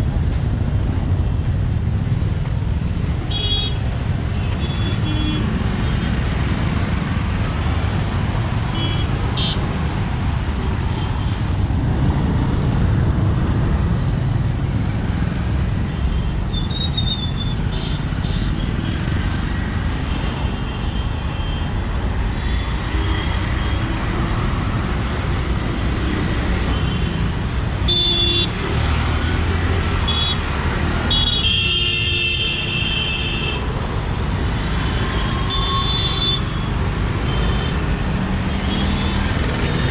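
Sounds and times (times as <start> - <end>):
dense road traffic rumble: 0.0 - 39.9.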